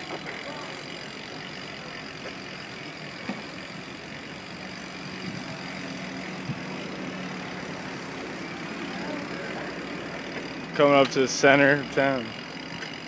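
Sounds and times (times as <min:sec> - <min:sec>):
bus and car engines running slowly: 0:00.0 - 0:13.0.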